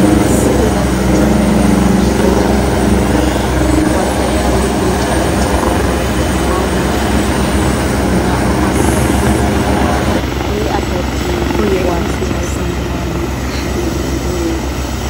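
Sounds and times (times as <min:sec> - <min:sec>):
helicopter rotor beating: 0:00.0 - 0:15.0.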